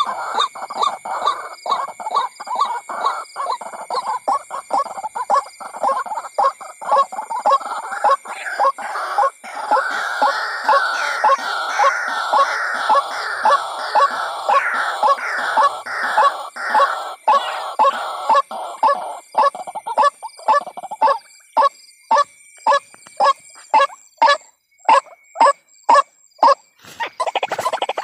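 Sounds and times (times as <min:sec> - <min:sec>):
waterhen croaking call: 0:00.0 - 0:28.0.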